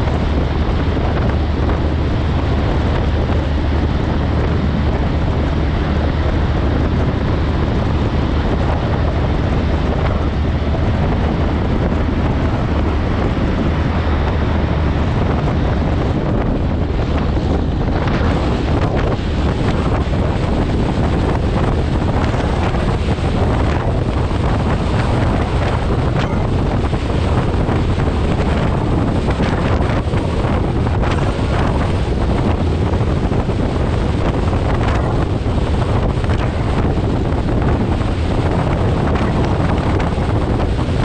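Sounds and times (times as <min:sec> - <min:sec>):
road noise: 0:00.0 - 0:41.0
truck diesel engine drone: 0:00.0 - 0:41.0
wind buffeting microphone: 0:00.0 - 0:41.0.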